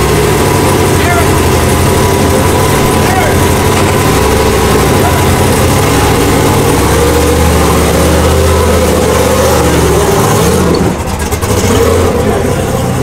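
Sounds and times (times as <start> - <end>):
race car engine idling: 0.0 - 13.0.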